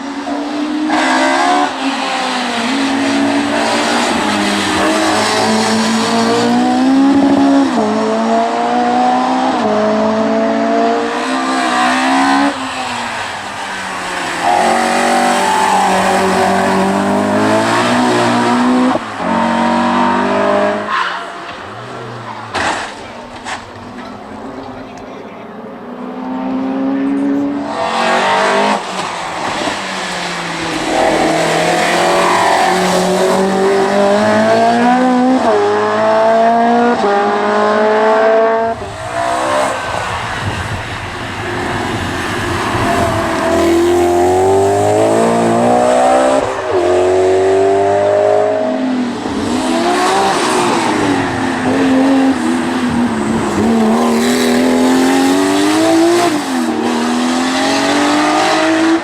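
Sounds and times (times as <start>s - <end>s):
race car engines accelerating: 0.0s - 59.0s.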